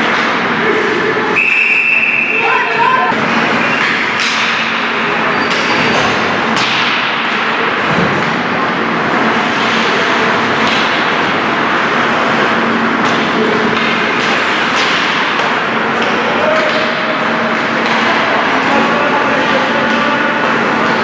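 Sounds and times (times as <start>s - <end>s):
hockey sticks knocking puck: 0.0s - 0.4s, 3.3s - 21.0s
echoing arena din of voices: 0.0s - 21.0s.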